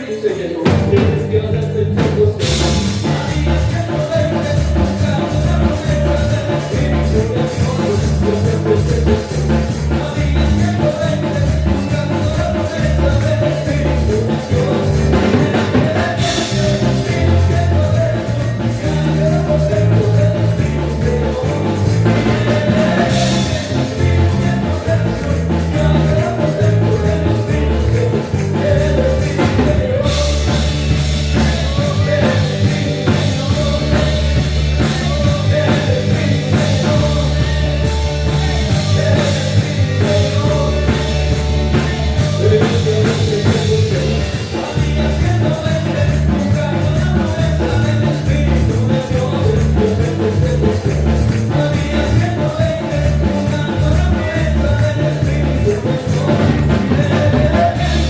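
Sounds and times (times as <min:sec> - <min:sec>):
drums steady beat: 0:00.0 - 0:58.0
person singing: 0:00.0 - 0:58.0
worship band playing: 0:00.0 - 0:58.0.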